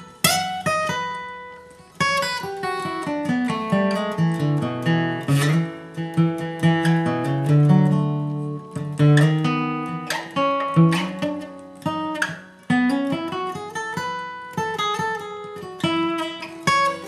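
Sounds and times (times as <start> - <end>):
acoustic guitar picked notes: 0.0 - 17.0
acoustic guitar strummed chords: 0.0 - 17.0.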